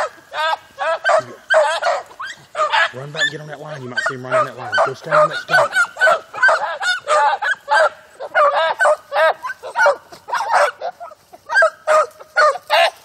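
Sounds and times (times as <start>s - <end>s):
hounds baying: 0.0s - 13.0s.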